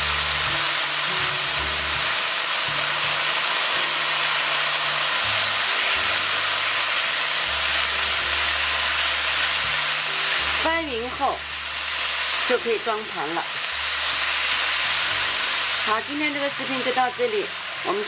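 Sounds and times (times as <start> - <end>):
food sizzling in a hot pan: 0.0 - 18.0.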